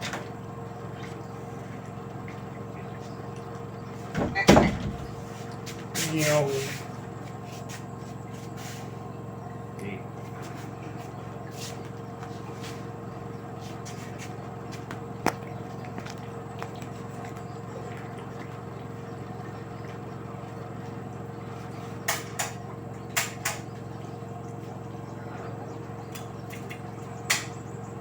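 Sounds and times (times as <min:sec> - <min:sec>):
washing machine humming and whining: 0:00.0 - 0:28.0.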